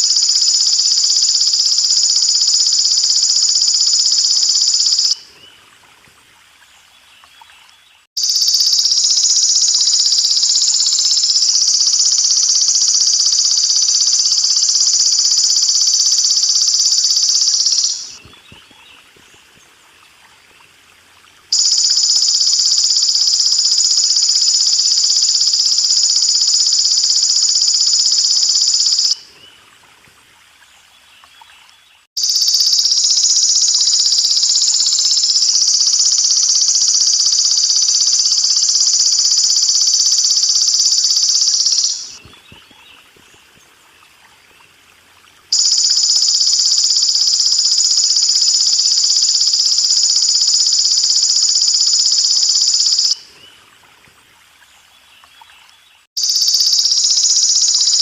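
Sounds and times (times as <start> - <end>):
trickle of running water: 0.0 - 58.0.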